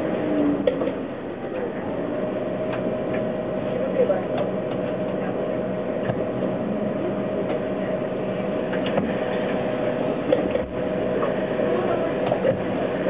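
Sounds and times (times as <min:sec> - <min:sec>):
electric motor hum and whine: 0:00.0 - 0:13.0.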